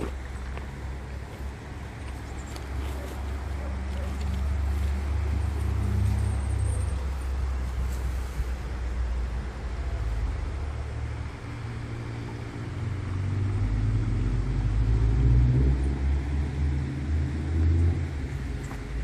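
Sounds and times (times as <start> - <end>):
car passing: 0.0 - 19.0.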